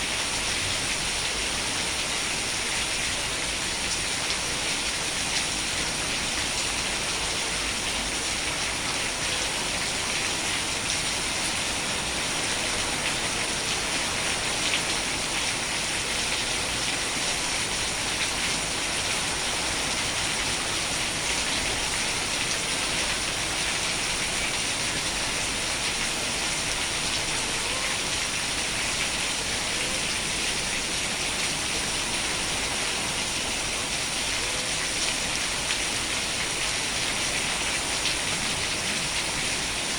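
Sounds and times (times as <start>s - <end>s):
heavy rain hissing: 0.0s - 39.9s
raindrops pattering on a surface: 0.0s - 39.9s.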